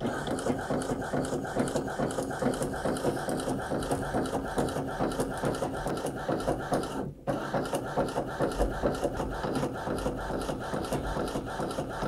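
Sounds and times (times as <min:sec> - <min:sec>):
printer whirring and ticking: 0:00.0 - 0:12.0.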